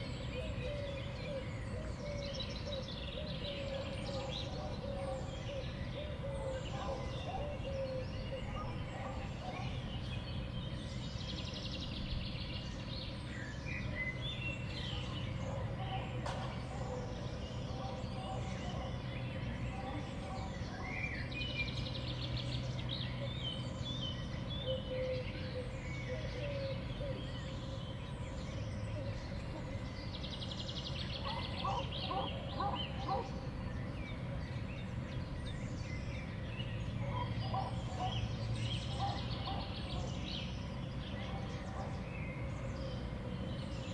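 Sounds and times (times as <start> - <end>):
songbirds chirping and twittering: 0.0 - 43.9.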